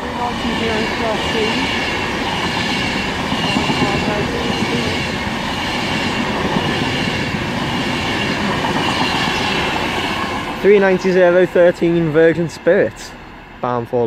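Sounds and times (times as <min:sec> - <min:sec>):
electric train passing slowly: 0:00.0 - 0:14.0.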